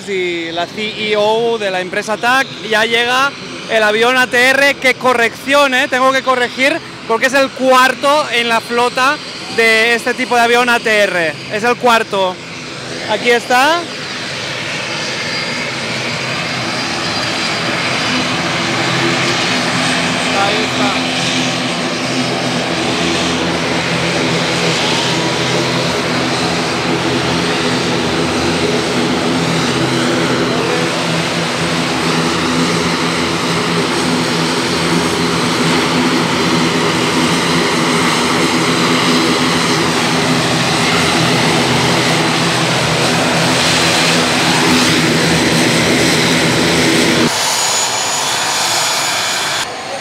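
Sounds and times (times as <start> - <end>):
turboprop airliner taxiing: 0.0 - 50.0.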